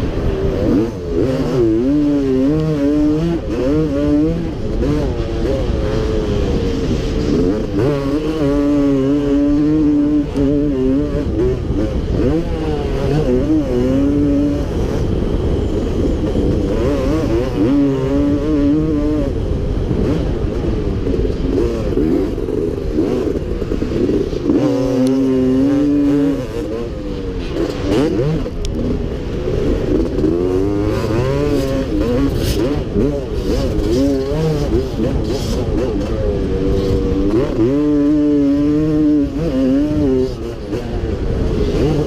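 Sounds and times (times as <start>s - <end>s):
motocross engine revving: 0.0s - 42.0s.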